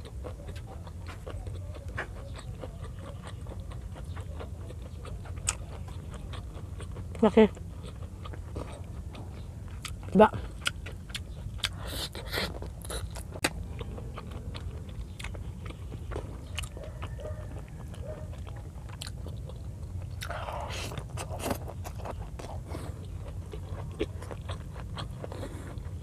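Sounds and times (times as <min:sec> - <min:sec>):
close chewing and crunching: 0:00.0 - 0:26.0
steady low hum: 0:00.0 - 0:26.0.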